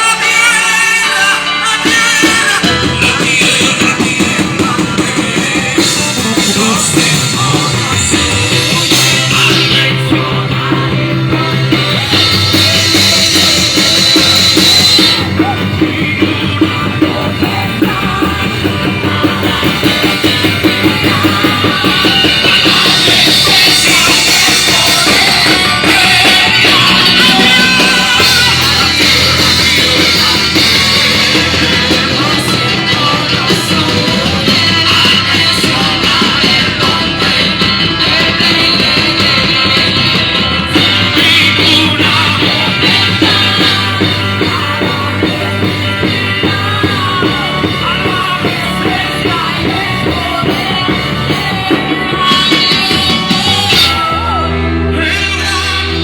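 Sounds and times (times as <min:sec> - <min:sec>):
drum kit beat: 0:00.0 - 0:56.0
live rock band playing: 0:00.0 - 0:56.0
person singing: 0:00.0 - 0:56.0.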